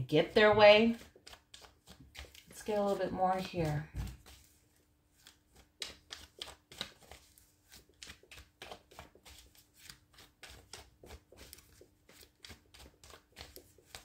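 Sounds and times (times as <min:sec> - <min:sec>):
cards being shuffled: 0:00.9 - 0:14.0.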